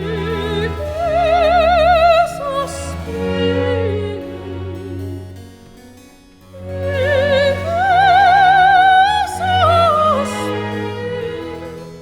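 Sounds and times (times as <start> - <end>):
operatic voice singing: 0.0 - 5.3, 6.6 - 12.0
low accompanying notes: 0.0 - 12.0.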